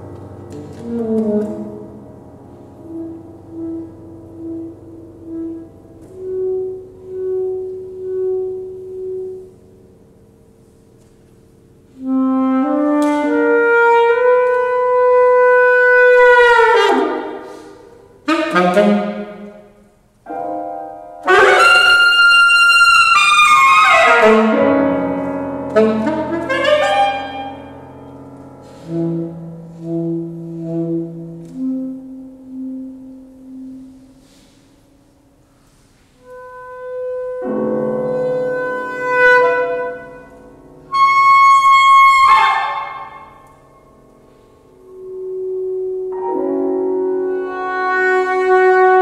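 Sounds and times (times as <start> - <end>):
piano: 0.0 - 49.0
saxophone: 0.4 - 43.8, 44.4 - 49.0.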